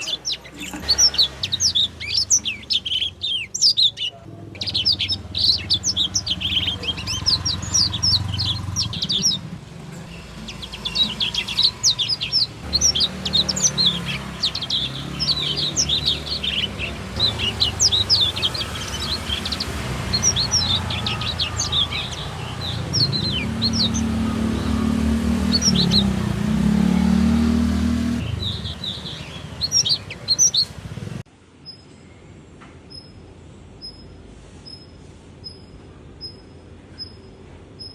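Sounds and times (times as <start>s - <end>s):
songbirds chirping and singing: 0.0s - 31.9s.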